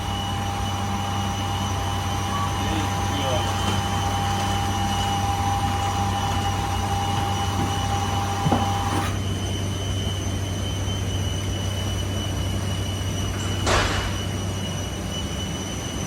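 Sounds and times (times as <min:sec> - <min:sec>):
high mechanical whine: 0:00.0 - 0:16.0
mechanical hum: 0:00.0 - 0:16.0.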